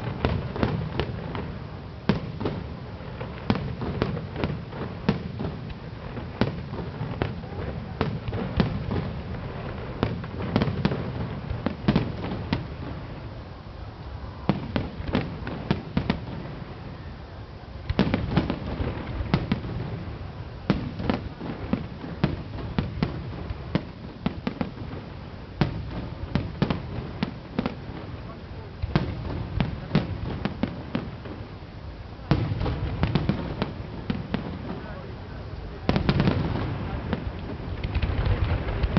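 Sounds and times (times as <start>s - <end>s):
fireworks bangs and cracks: 0.0s - 13.4s, 14.4s - 17.0s, 17.8s - 38.9s.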